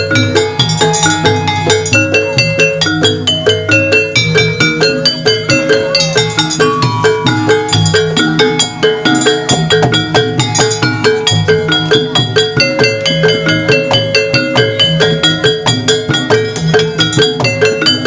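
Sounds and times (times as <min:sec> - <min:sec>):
gamelan ensemble playing: 0:00.0 - 0:18.0.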